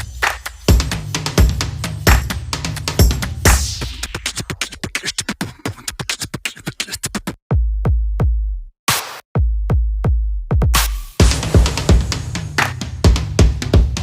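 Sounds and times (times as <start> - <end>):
drum-machine beat with hi-hats: 0.0 - 14.0.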